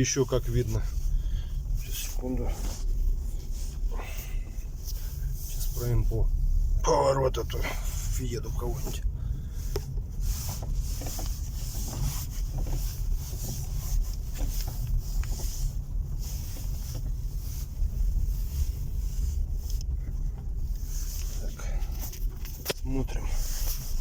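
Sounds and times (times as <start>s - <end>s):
car road and wind rumble: 0.0s - 24.0s
suspension clicks: 0.0s - 24.0s.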